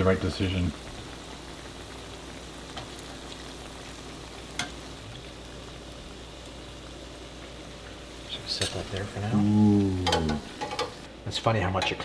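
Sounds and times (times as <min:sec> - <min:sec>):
dough sizzling in hot oil: 0:00.0 - 0:11.1.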